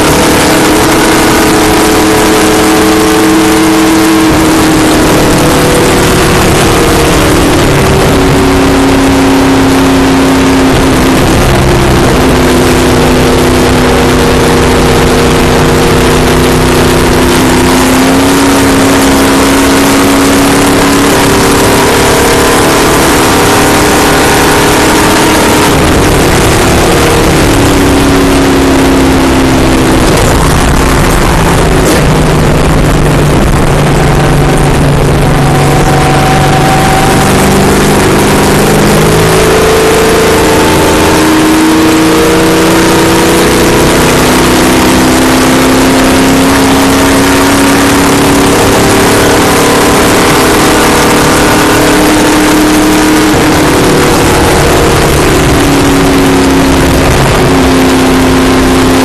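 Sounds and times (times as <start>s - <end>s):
race car engine at high speed: 0.0s - 59.0s
wind and road noise: 0.0s - 59.0s.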